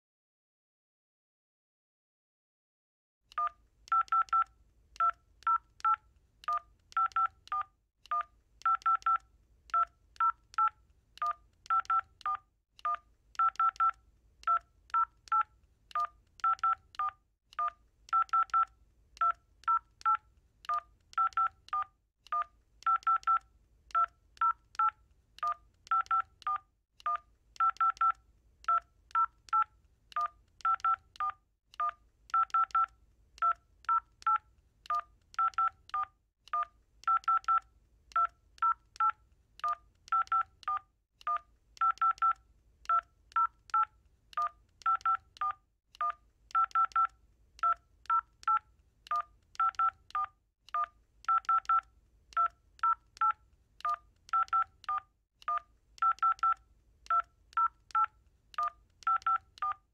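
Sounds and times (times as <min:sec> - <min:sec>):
telephone keypad tones: 0:03.3 - 0:59.9.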